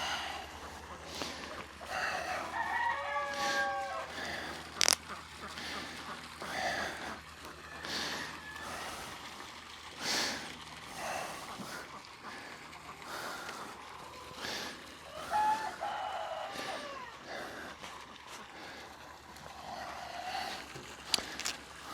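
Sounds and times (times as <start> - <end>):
hard breathing: 0.0 - 21.9.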